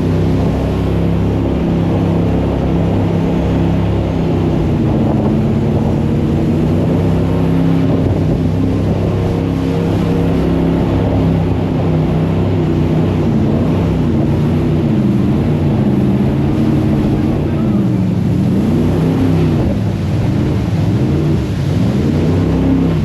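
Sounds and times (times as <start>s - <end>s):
jet boat engine running: 0.0s - 23.0s.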